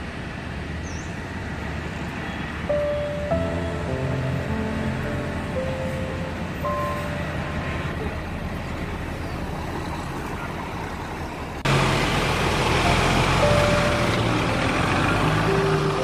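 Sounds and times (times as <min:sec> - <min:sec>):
bus diesel engine running: 0:00.0 - 0:16.0
steady traffic noise: 0:00.0 - 0:16.0.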